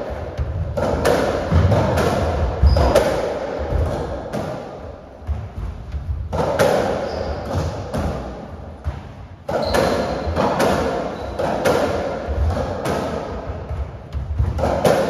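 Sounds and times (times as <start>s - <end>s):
racket hitting ball: 0.0s - 15.0s
ball striking court walls: 0.1s - 15.0s.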